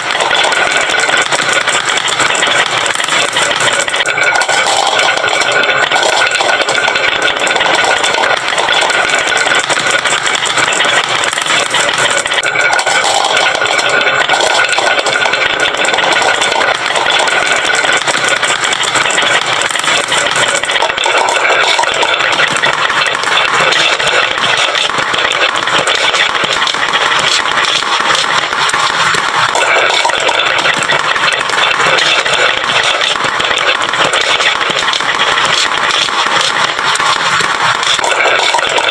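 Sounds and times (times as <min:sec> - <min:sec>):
marbles clattering down wooden slope: 0:00.0 - 0:38.9.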